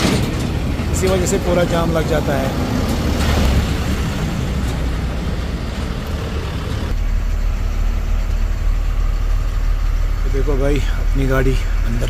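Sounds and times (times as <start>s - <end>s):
road noise: 0.0s - 12.0s
truck engine running: 0.0s - 12.0s.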